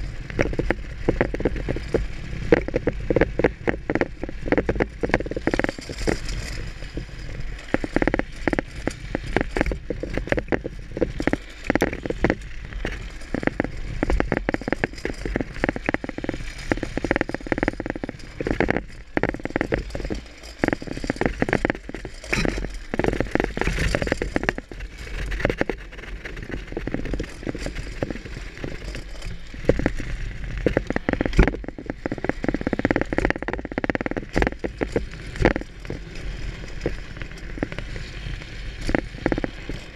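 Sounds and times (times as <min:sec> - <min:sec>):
clattering and crackling knocks: 0:00.0 - 0:39.9
wheels rumbling on road: 0:00.0 - 0:39.9.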